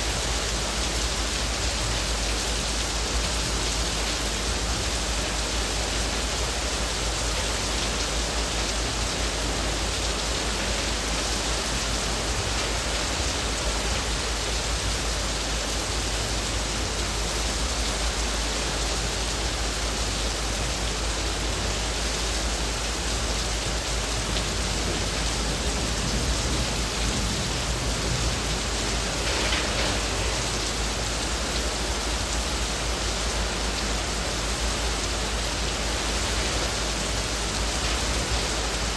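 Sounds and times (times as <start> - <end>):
heavy rain on leaves: 0.0 - 38.9.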